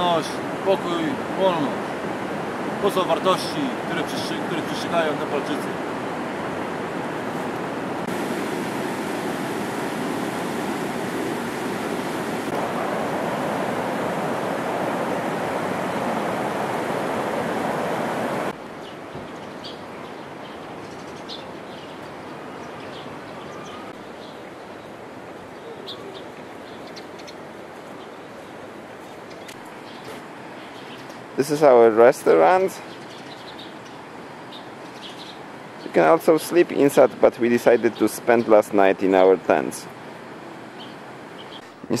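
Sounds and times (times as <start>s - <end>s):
outdoor ambience: 0.0s - 42.0s.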